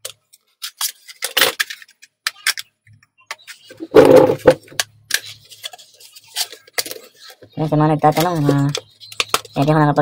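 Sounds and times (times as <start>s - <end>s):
plastic packaging clicks and crackles: 0.0s - 3.7s, 4.6s - 9.8s.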